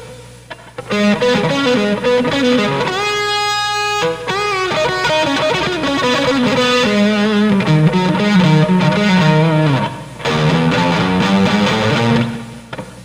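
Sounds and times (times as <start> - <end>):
electric guitar sustained notes: 0.0 - 13.0.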